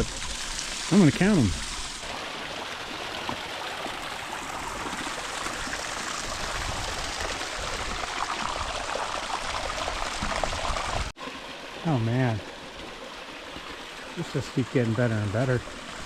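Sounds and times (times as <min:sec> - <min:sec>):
small waterfalls splashing: 0:00.0 - 0:16.0.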